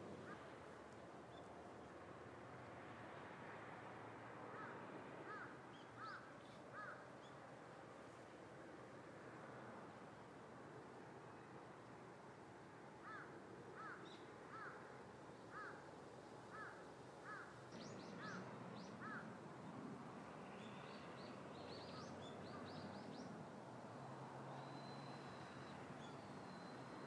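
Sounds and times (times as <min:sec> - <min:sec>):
low background noise: 0:00.0 - 0:27.0.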